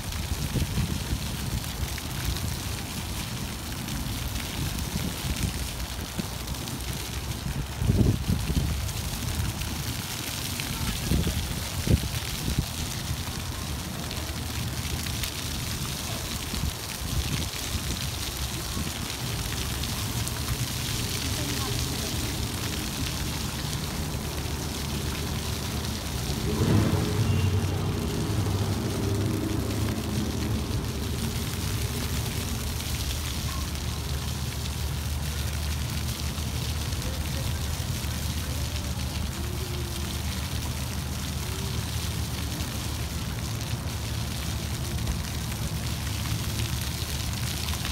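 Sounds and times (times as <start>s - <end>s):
fountain jets splashing on paving: 0.0s - 47.9s.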